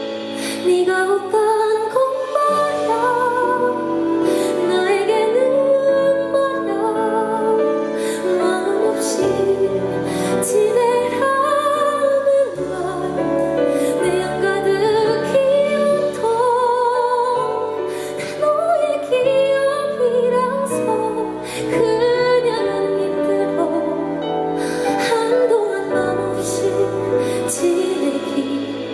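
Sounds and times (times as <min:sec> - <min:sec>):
instrumental accompaniment: 0:00.0 - 0:28.9
woman singing ballad: 0:00.0 - 0:28.9.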